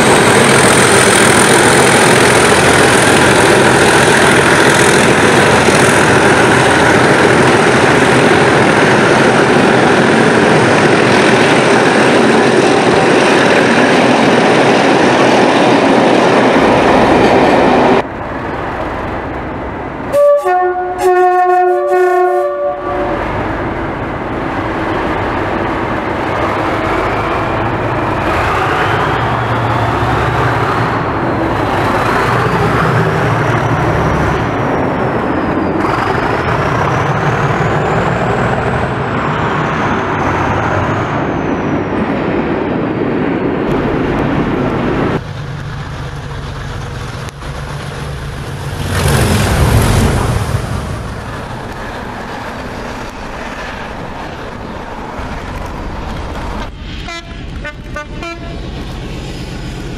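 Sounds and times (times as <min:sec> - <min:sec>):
diesel locomotive accelerating: 0:00.0 - 0:59.9
freight train passing: 0:00.0 - 0:59.9.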